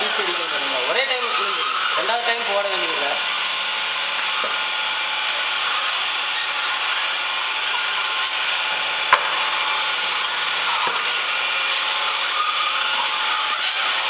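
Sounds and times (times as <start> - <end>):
oil expeller running: 0.0 - 14.0.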